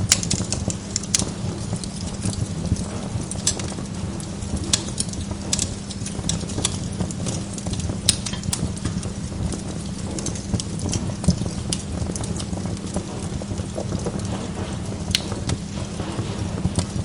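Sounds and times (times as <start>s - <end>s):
log fire crackling: 0.0s - 17.0s
steady low rumble: 0.0s - 17.0s.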